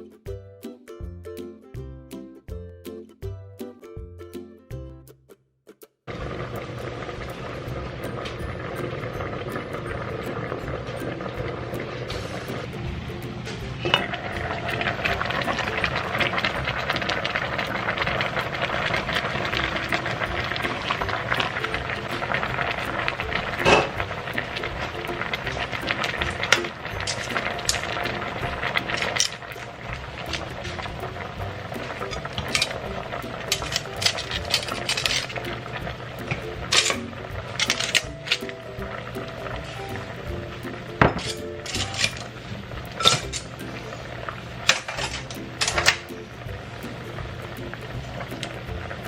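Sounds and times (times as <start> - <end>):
water boiling in a pot: 6.1 - 49.0.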